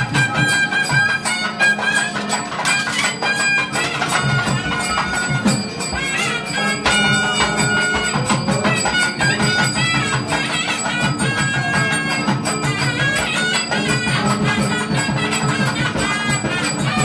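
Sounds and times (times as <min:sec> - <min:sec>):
bells ringing: 0:00.0 - 0:17.0
percussion: 0:00.0 - 0:17.0
temple music: 0:00.0 - 0:17.0.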